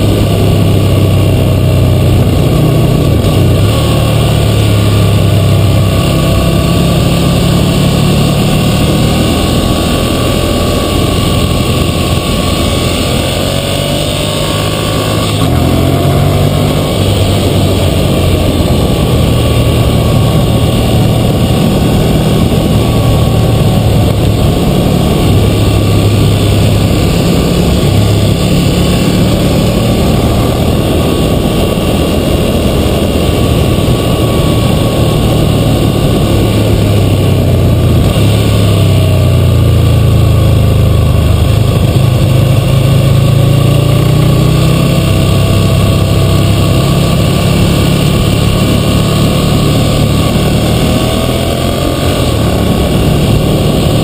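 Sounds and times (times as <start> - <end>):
motorcycle engine running: 0.0 - 54.0
wind noise: 0.0 - 54.0.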